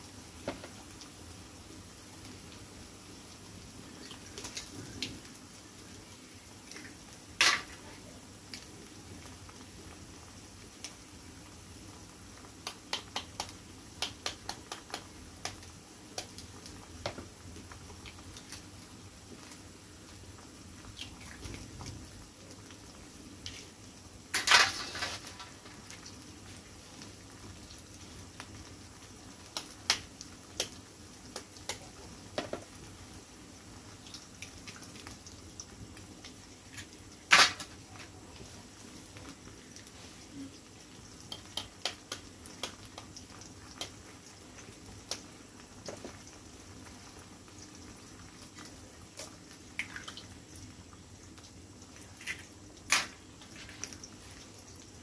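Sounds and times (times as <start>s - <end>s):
faint hiss from a pan: 0.0s - 55.0s.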